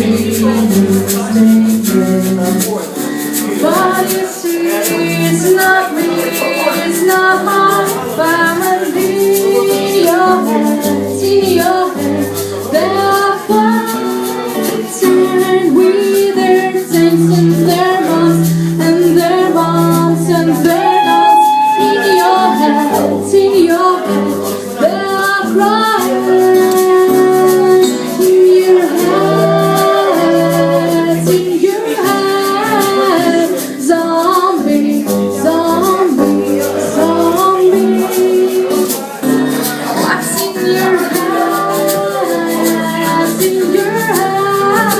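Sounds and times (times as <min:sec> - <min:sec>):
band playing live: 0:00.0 - 0:44.9
bass guitar: 0:00.0 - 0:44.9
person singing: 0:00.0 - 0:44.9
shaker rattle beat: 0:00.0 - 0:44.9.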